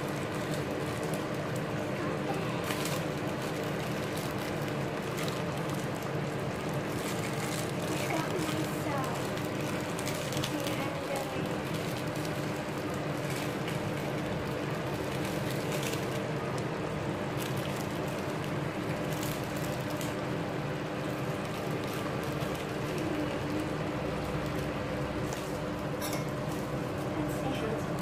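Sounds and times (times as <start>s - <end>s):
stew bubbling in a pot: 0.0s - 28.0s.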